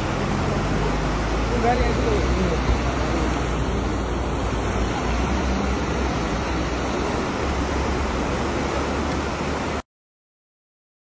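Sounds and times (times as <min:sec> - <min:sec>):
river rushing: 0:00.0 - 0:09.8.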